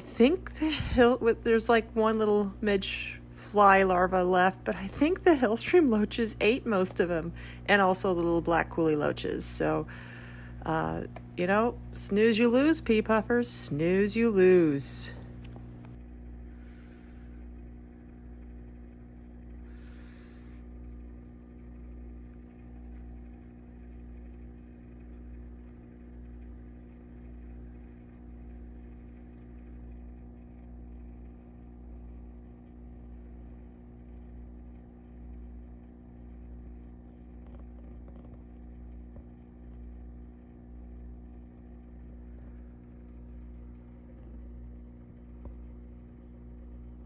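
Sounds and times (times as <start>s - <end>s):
aquarium equipment humming: 0.0s - 47.0s.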